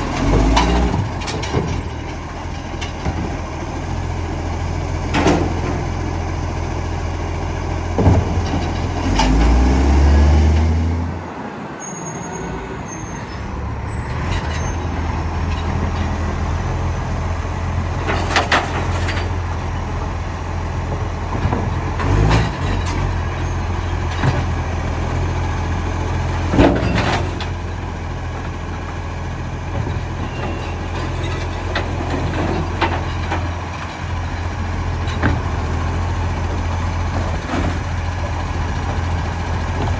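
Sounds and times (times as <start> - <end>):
diesel truck engine running: 0.0 - 11.8, 12.4 - 39.9.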